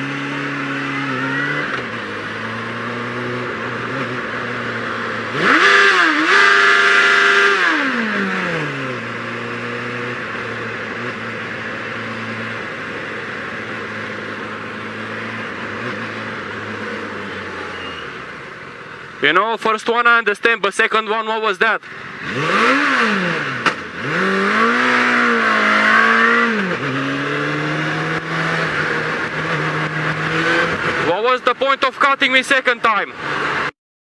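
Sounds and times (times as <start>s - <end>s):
motorcycle engine cruising: 0.0s - 19.3s, 21.8s - 33.7s.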